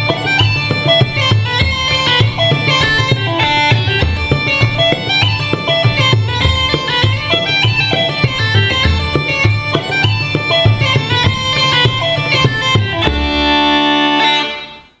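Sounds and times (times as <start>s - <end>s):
frame drum beat: 0.0s - 13.9s.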